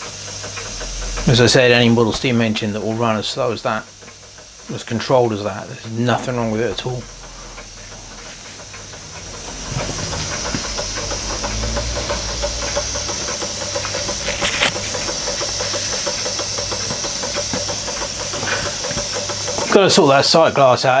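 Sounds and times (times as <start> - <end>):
model steam engine ticking: 0.0 - 21.0
steam hissing: 0.0 - 21.0.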